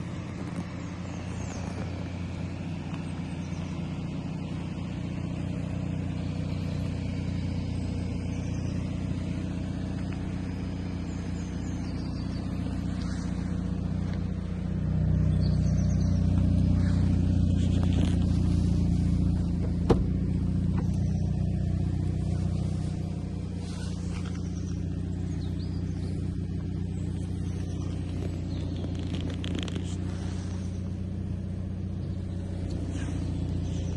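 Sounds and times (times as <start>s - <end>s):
car engine running steadily: 0.0s - 33.9s.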